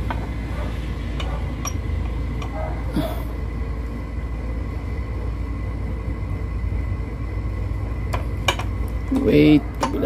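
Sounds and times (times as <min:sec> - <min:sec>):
faint hum: 0:00.0 - 0:10.0
low background rumble: 0:00.0 - 0:10.0.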